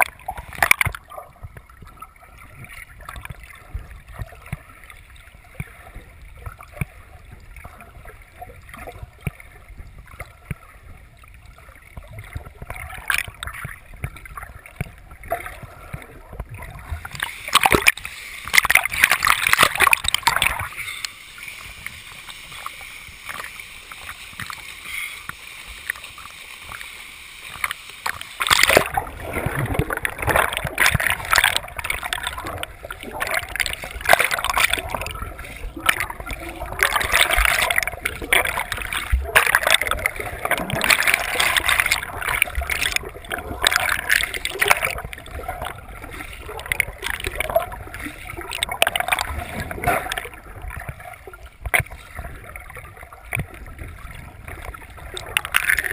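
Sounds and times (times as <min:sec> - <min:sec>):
crackling splashes and bubbles: 0:00.0 - 0:55.9
underwater water sloshing and bubbling: 0:00.0 - 0:55.9.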